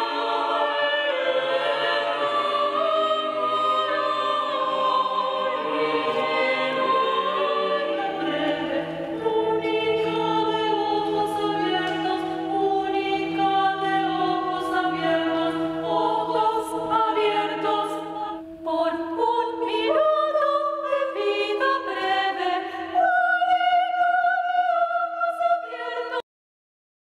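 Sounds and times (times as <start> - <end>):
choir singing a cappella: 0.0 - 26.2.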